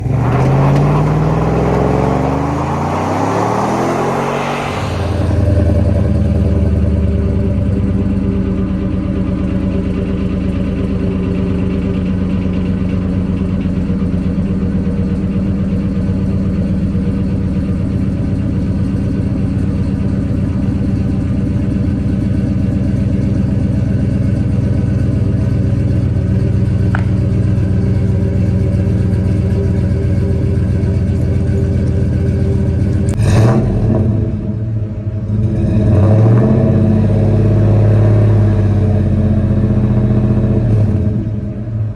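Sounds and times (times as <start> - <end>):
truck engine starting and idling: 0.0 - 41.9.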